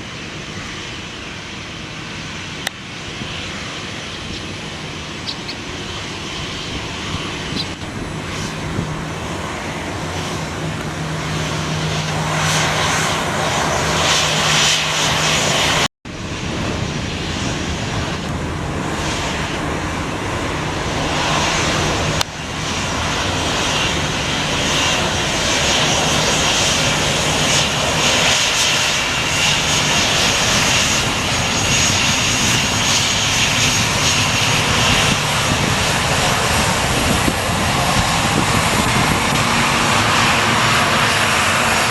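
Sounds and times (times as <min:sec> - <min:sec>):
jet engines roaring at takeoff: 0:00.0 - 0:41.9.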